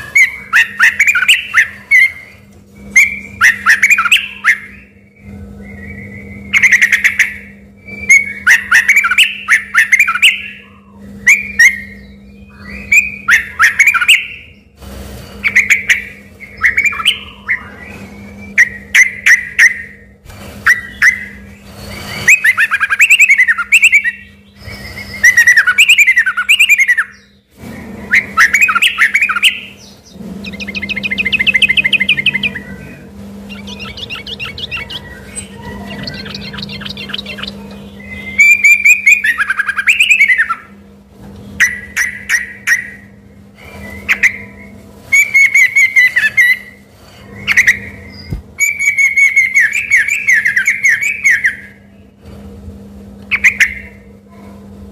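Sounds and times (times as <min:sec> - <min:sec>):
bird singing whistled phrases: 0:00.0 - 0:14.6, 0:15.4 - 0:27.4, 0:28.0 - 0:40.7, 0:41.6 - 0:52.1, 0:53.3 - 0:54.0
rapid rattling bird notes: 0:00.0 - 0:54.9.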